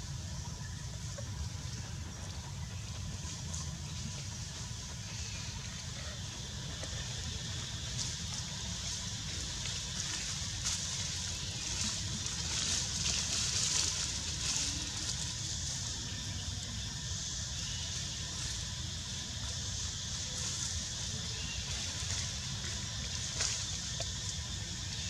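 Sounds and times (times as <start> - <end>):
high hiss: 3.5 - 25.0.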